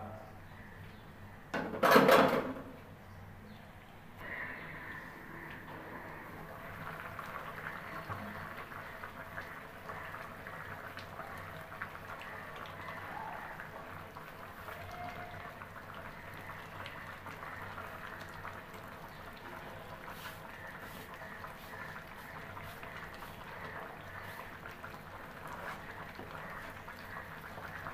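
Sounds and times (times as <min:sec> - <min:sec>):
curry bubbling and crackling: 0:04.2 - 0:27.9.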